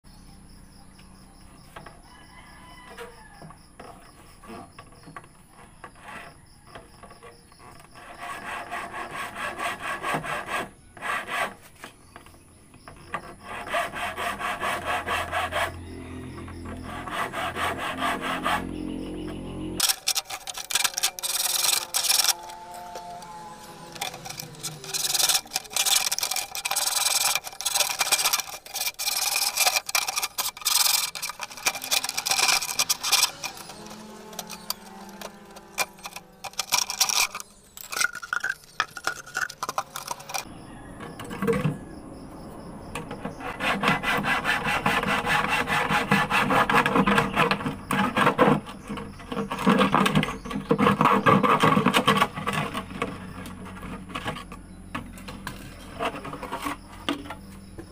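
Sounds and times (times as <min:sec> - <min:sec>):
scraping and rubbing strokes: 0:03.8 - 0:12.3, 0:13.0 - 0:40.5, 0:43.2 - 0:57.6.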